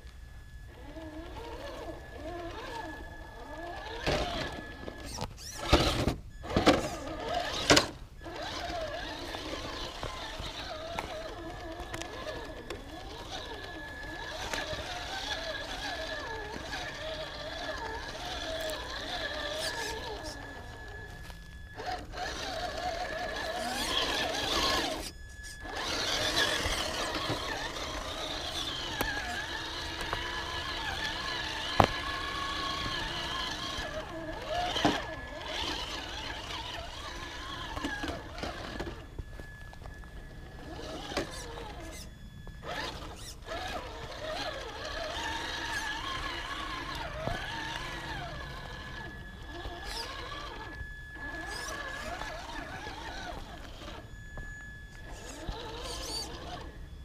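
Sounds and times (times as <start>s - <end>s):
electric motor and drivetrain whine: 0.0s - 57.0s
steady high tone: 6.3s - 57.0s.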